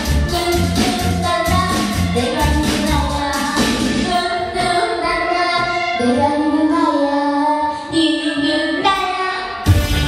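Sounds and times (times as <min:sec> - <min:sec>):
accompanying music: 0:00.0 - 0:07.3, 0:08.3 - 0:10.0
girl singing into microphone: 0:00.0 - 0:09.7.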